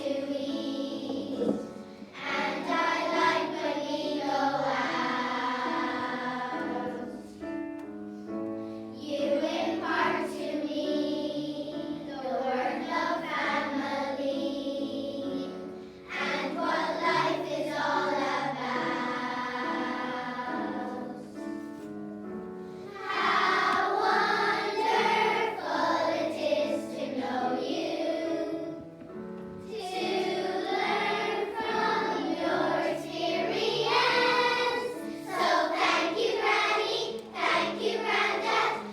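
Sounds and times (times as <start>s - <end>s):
girls choir singing: 0.0s - 7.7s, 8.9s - 21.9s, 22.7s - 38.9s.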